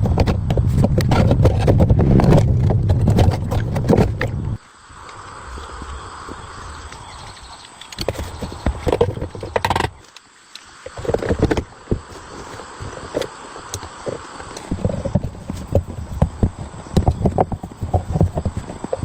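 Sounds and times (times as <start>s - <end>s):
faint steady hiss: 3.7s - 19.0s.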